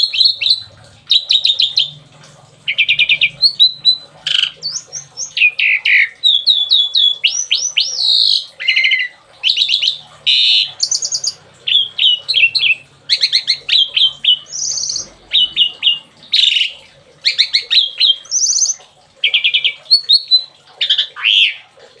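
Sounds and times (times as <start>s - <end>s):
songbird singing: 2.6s - 21.7s.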